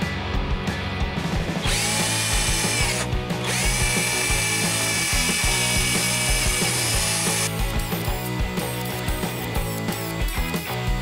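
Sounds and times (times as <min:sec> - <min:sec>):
drill wire brush scrubbing metal: 0:01.6 - 0:11.0.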